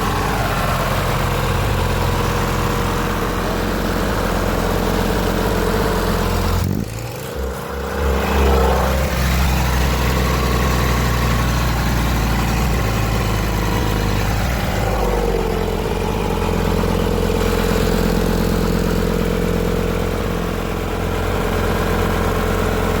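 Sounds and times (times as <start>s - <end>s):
motor running: 0.0s - 23.0s.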